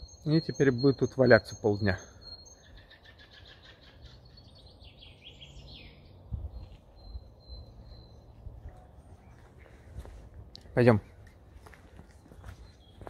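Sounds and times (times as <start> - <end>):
birdsong chirps and trills: 0.0 - 13.0.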